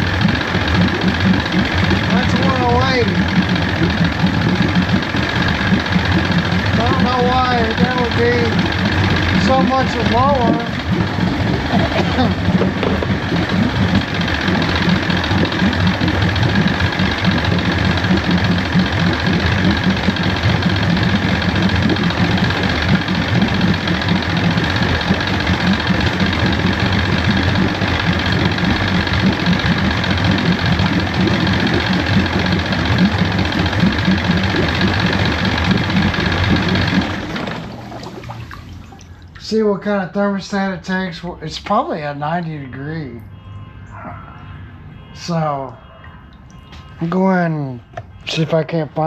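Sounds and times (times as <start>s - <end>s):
outboard motor running: 0.0s - 42.0s, 43.2s - 49.0s.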